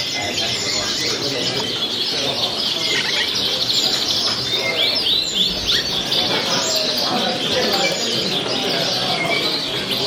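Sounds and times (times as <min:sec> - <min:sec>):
many birds chirping: 0:00.0 - 0:10.0.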